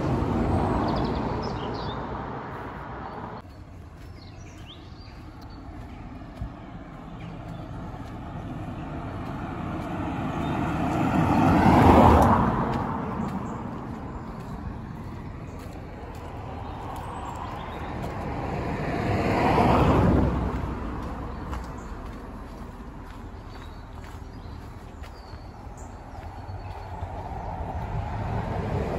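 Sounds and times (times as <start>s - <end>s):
car approaching: 0.0s - 28.9s
car driving past: 5.0s - 28.9s.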